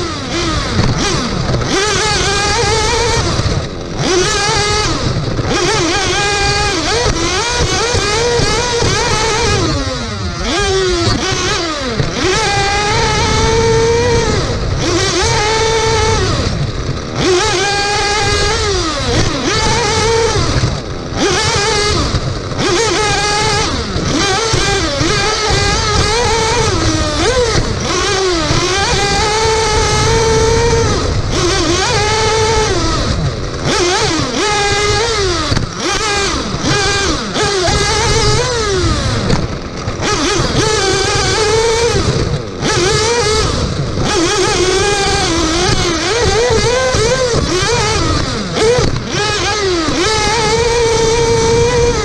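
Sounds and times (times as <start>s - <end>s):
small engine revving: 0.0s - 52.0s.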